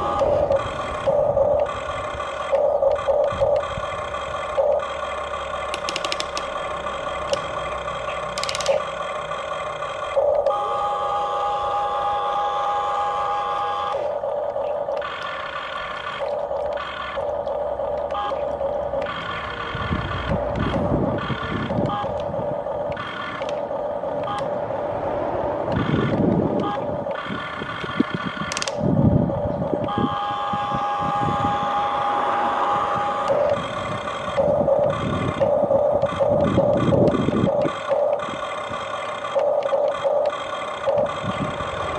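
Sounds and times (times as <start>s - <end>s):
small electric motors whining: 0.0s - 41.9s.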